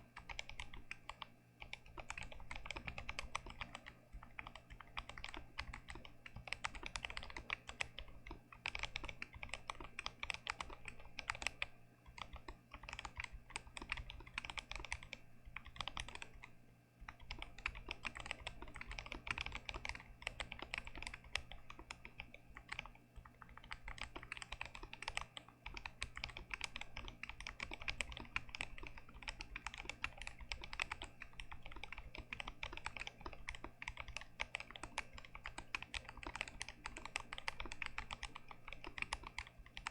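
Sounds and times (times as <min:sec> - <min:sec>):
mechanical keyboard typing: 0:00.1 - 0:39.9.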